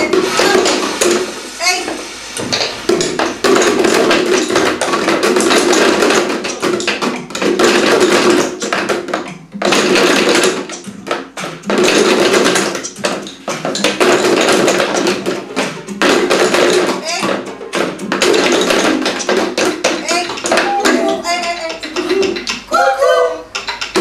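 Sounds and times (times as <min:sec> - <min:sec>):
drumsticks beating plastic buckets: 0:00.0 - 0:24.0.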